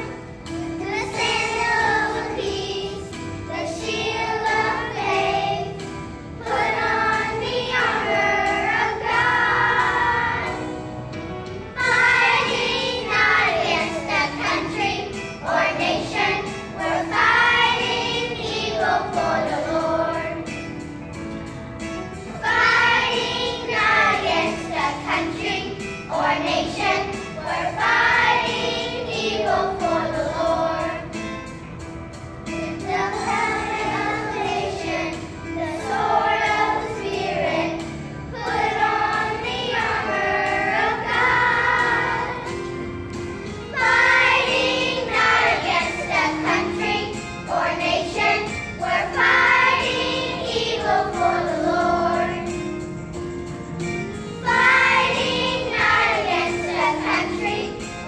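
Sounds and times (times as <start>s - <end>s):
children's choir singing: 0.0s - 11.0s, 11.7s - 20.8s, 22.2s - 31.4s, 32.5s - 53.0s, 54.3s - 58.0s.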